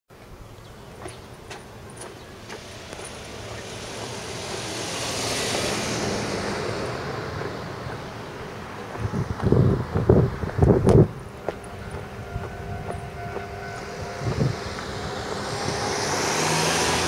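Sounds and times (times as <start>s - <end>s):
vehicle passing by: 0.8s - 17.0s.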